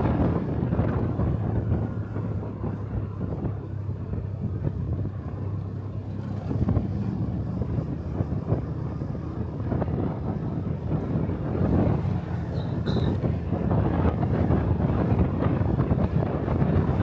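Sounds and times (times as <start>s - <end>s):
motorcycle engine running: 0.0s - 17.0s
wind buffeting the microphone: 0.0s - 17.0s.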